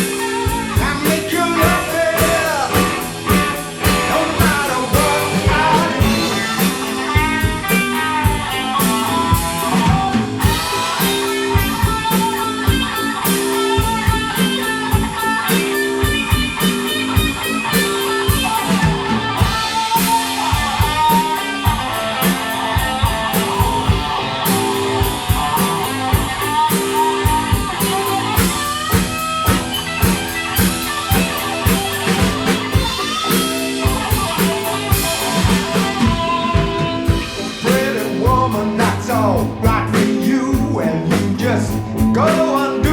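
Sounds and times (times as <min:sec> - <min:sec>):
bass guitar: 0:00.0 - 0:42.9
drum kit beat: 0:00.0 - 0:42.9
electric guitar lead: 0:00.0 - 0:42.9.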